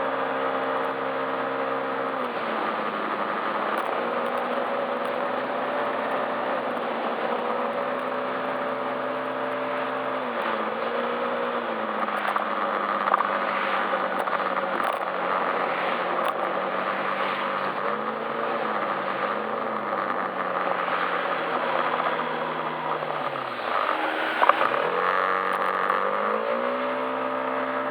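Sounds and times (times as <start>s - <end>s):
scooter engine humming: 0.0s - 27.9s
wind and road noise: 0.0s - 27.9s.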